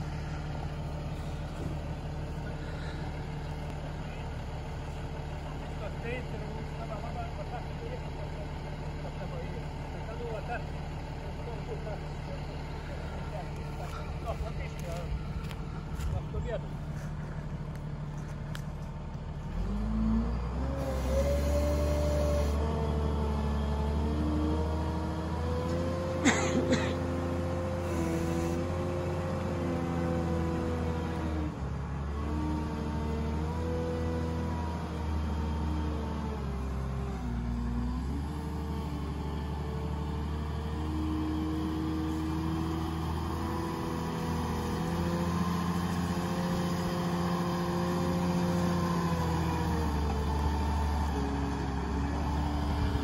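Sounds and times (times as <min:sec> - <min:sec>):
wheel loader diesel engine running: 0:00.0 - 0:53.0.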